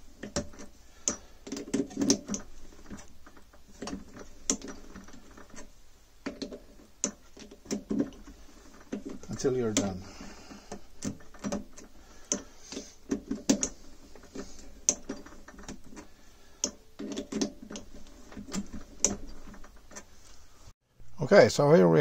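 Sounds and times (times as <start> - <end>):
threading die clicking and scraping: 0.0 - 10.0, 10.6 - 20.4.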